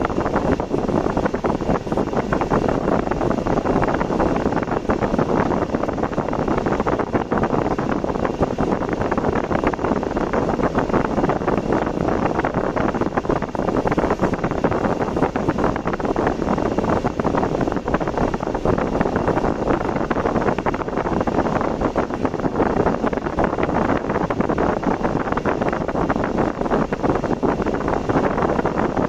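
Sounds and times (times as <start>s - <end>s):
road and wind noise: 0.0s - 29.0s
wind buffeting microphone: 0.0s - 29.0s.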